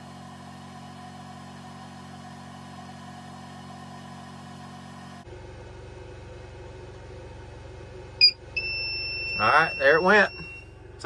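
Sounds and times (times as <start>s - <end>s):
power inverter humming: 0.0s - 11.0s.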